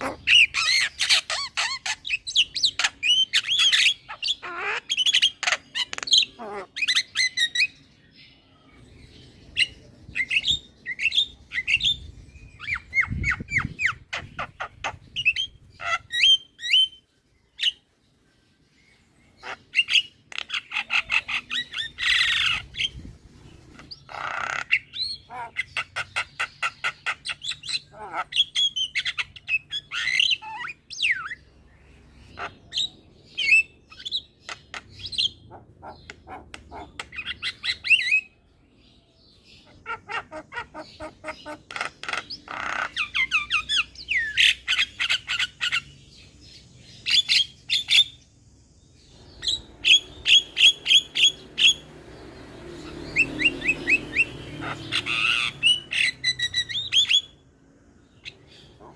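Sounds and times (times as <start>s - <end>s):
bird singing and calling: 0.0s - 58.9s.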